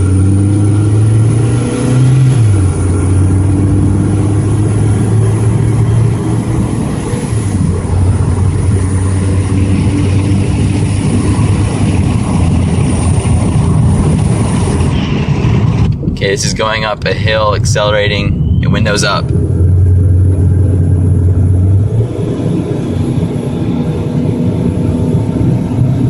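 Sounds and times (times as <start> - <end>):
car engine accelerating: 0.0 - 26.0
road and wind noise: 0.0 - 26.0.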